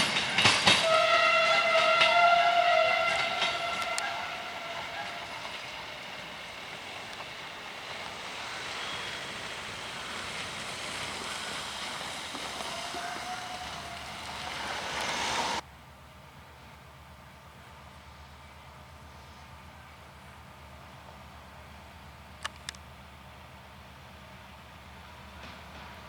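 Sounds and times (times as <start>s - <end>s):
passenger train rumbling: 0.0s - 26.0s.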